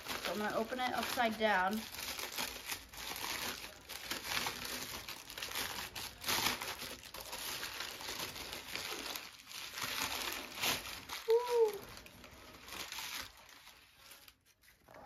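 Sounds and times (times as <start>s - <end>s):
paper crumpling and rustling: 0.0s - 15.0s.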